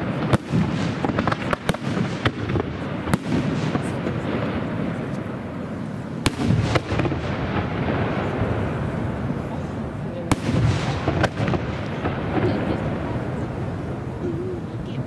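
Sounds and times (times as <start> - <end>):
firework shells bursting: 0.0 - 9.4, 10.3 - 13.9.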